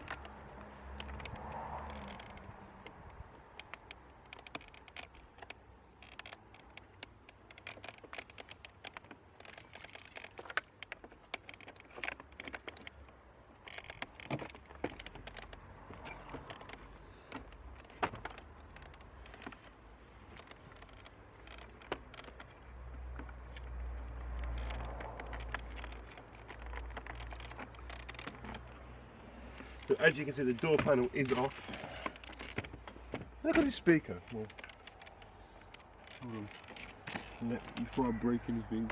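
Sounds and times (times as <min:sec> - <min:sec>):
hand tools and plastic trim clicking: 0:00.0 - 0:38.9.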